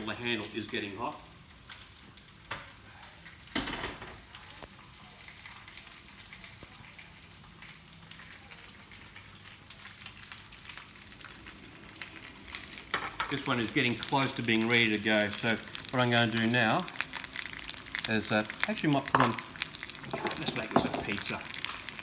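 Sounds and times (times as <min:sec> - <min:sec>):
food sizzling in pans: 0:00.0 - 0:22.0.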